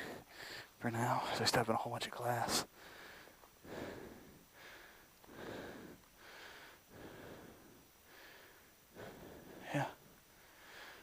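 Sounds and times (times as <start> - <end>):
man breathing heavily: 0.0 - 1.4, 2.4 - 11.0.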